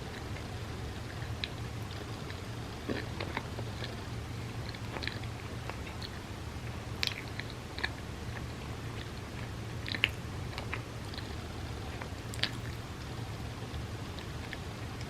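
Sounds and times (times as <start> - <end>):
close chewing mouth smacks: 0.0 - 15.0
steady low hum: 0.0 - 15.0.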